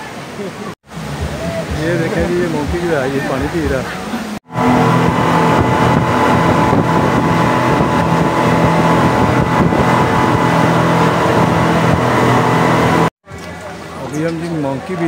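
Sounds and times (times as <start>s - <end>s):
wind and water rushing: 0.0s - 13.1s
speedboat engine drone: 0.2s - 15.0s.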